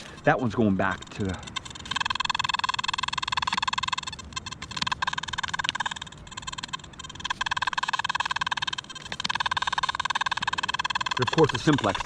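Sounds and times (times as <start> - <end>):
rapidly pulsing metal detector beep: 0.0 - 12.0.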